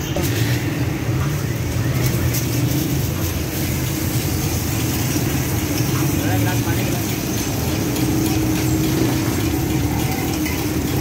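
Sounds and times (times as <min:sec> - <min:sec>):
meat sizzling on griddle: 0:01.6 - 0:11.0.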